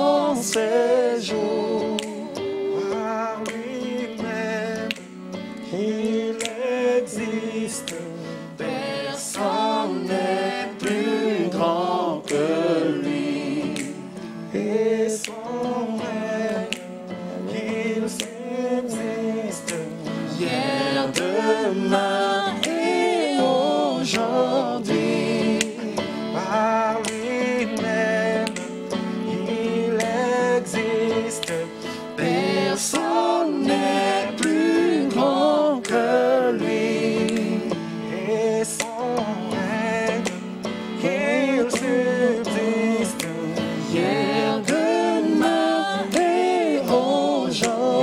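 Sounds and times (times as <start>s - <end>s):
person singing a hymn: 0.0s - 5.1s, 5.7s - 48.0s
electronic keyboard: 0.0s - 48.0s.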